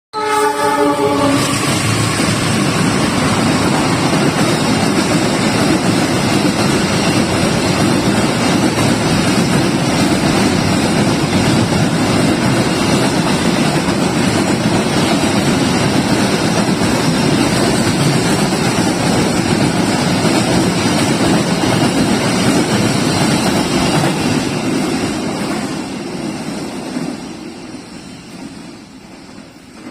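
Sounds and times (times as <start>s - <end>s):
freight train wheels on rails: 0.2s - 29.9s.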